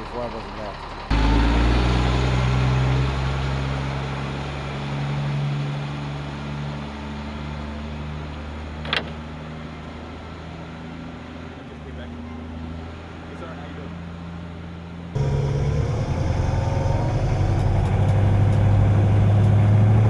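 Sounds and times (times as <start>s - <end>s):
diesel truck driving past: 0.0s - 20.0s.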